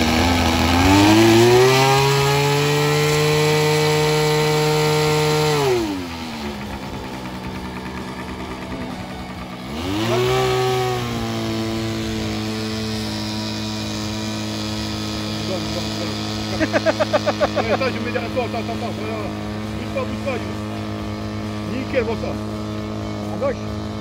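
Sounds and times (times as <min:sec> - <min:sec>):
model plane engine revving: 0:00.0 - 0:24.0.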